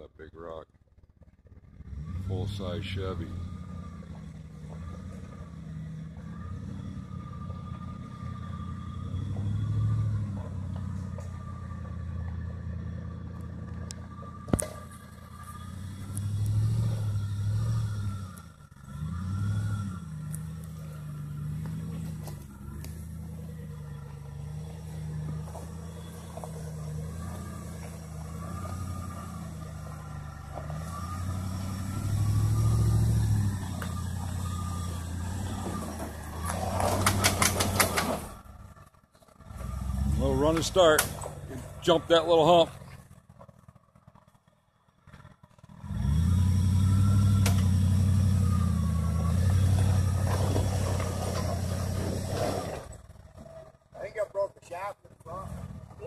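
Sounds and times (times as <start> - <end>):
truck engine pulling under load: 0.0 - 56.0.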